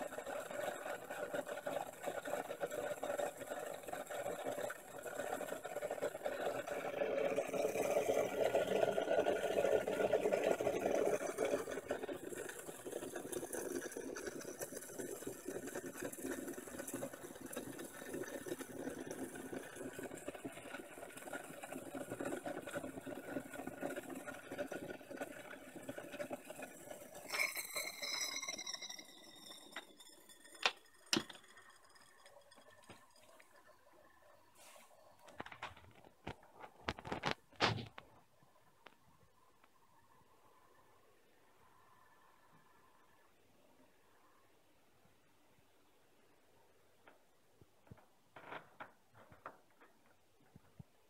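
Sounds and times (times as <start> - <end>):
water boiling and bubbling: 0.0 - 51.0.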